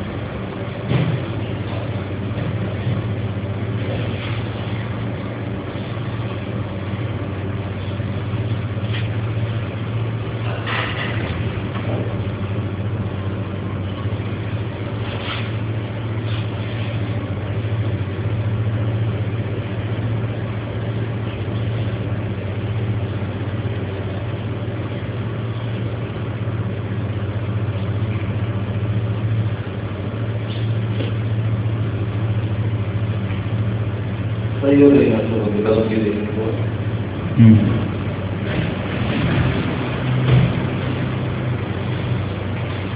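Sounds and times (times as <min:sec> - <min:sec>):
low hum: 0:00.0 - 0:42.9.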